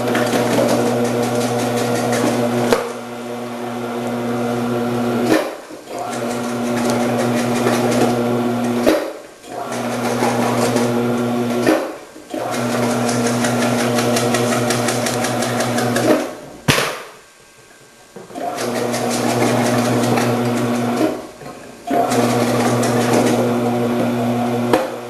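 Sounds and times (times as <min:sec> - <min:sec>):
vegetable processor motor running: 0:00.0 - 0:16.3, 0:18.3 - 0:21.2, 0:21.9 - 0:25.0.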